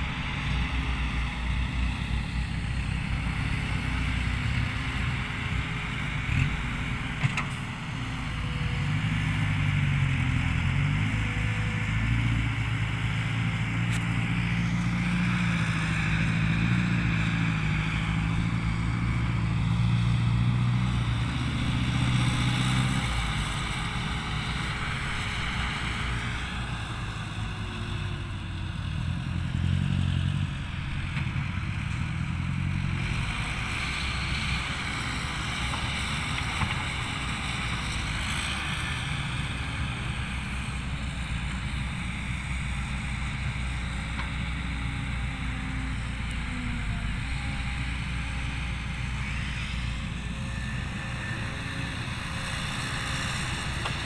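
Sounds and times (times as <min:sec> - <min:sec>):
dump truck engine running: 0:00.0 - 0:54.0
excavator engine working: 0:00.0 - 0:54.0.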